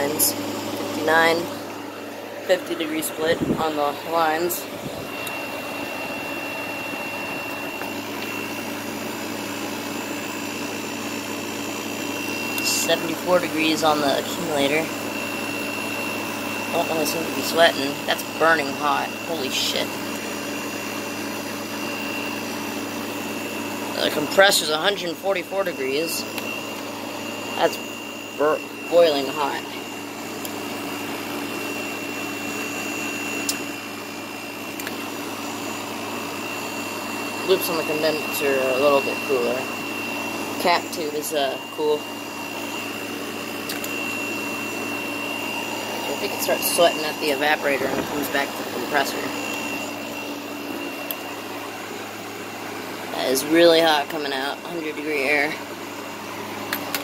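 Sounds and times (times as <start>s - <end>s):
thin high whine: 0.0s - 10.8s, 12.0s - 52.3s
air conditioner hum and airflow: 0.0s - 57.0s.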